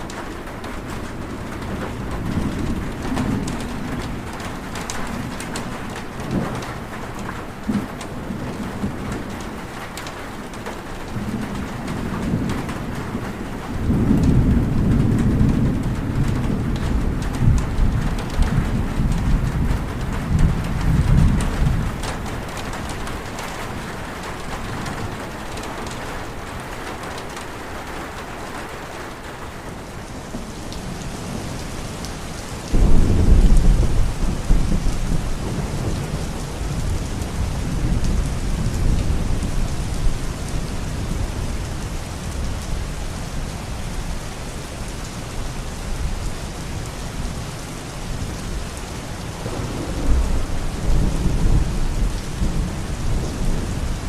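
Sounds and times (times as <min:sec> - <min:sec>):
thunder clap and rumble: 0:00.0 - 0:29.7, 0:30.3 - 0:44.4, 0:45.1 - 0:54.0
rain hissing: 0:00.0 - 0:54.0.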